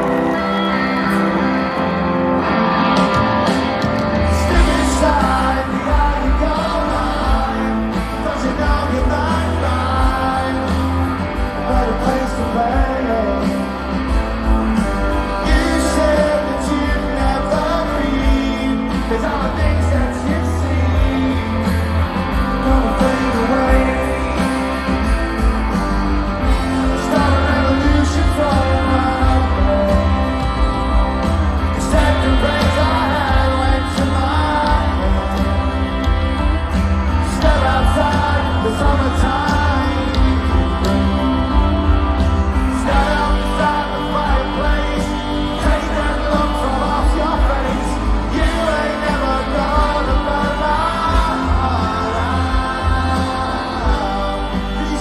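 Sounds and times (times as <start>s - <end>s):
rock band playing: 0.0s - 55.0s
person singing: 3.9s - 55.0s.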